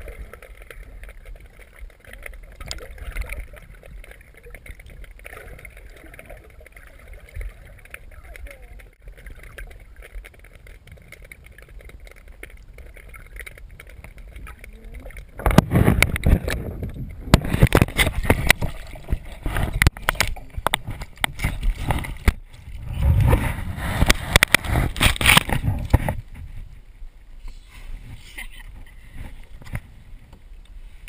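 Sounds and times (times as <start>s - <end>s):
water splashing and gurgling: 0.0s - 31.0s.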